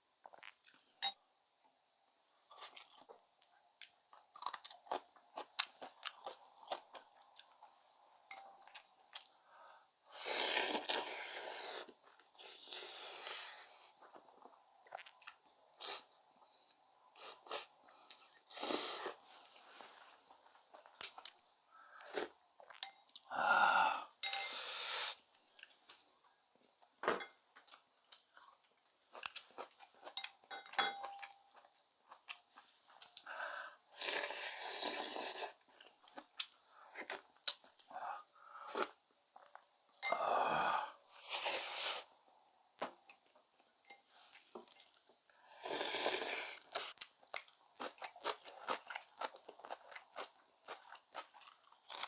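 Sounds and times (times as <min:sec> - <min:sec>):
person chewing and crunching food: 0:02.5 - 0:16.6, 0:17.2 - 0:24.5, 0:27.6 - 0:42.1, 0:43.0 - 0:52.0.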